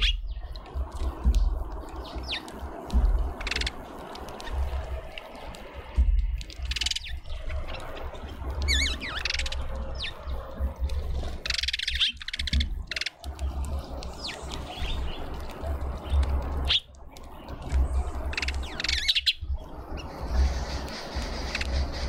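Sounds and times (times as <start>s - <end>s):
garden birds chirping: 0.0s - 22.0s
low rumble: 0.0s - 22.0s.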